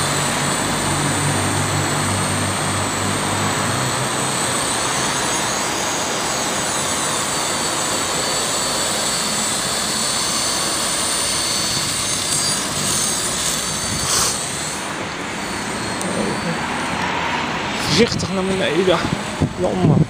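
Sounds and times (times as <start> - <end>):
rc helicopter rotors whirring: 0.0 - 19.4
loud burst of noise: 0.0 - 20.0.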